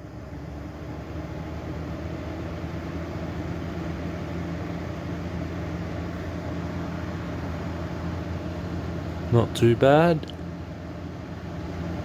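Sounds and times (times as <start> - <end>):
exhaust fan humming and vibrating: 0.0 - 12.0.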